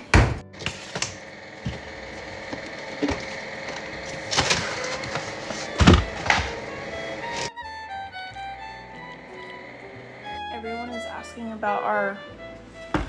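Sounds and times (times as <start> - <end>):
kitchen equipment hum: 0.0 - 7.5, 8.5 - 11.8.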